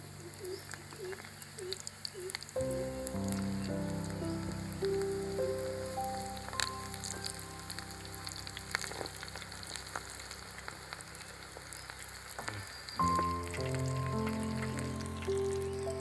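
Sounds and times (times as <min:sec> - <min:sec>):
soft background music: 0:00.0 - 0:11.9, 0:13.0 - 0:16.0
batter deep-frying in hot oil: 0:00.0 - 0:16.0.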